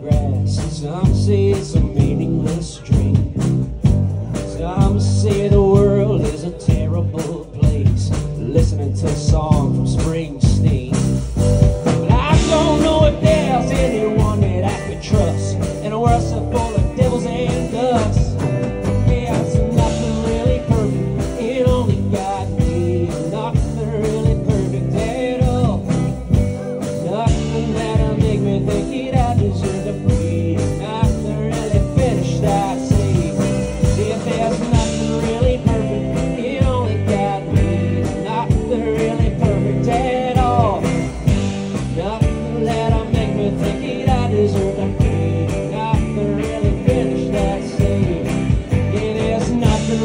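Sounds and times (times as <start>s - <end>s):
blues-rock band playing: 0.0s - 50.0s.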